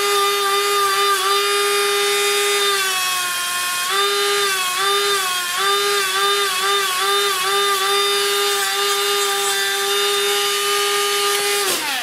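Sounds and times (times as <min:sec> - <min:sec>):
rotary tool whining: 0:00.0 - 0:12.0.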